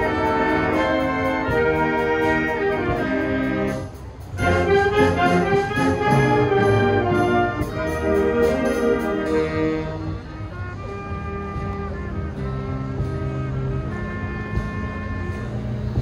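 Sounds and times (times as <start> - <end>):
wind band playing chords: 0.0 - 16.0.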